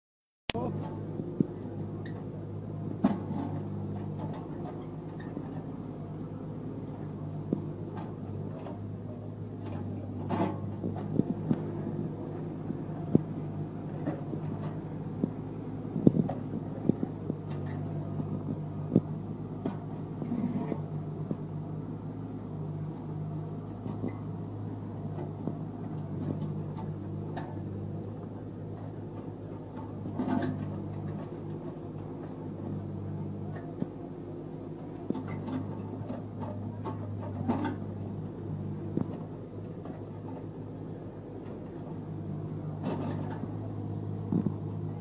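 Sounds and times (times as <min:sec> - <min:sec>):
excavator diesel engine running: 0:00.5 - 0:45.0.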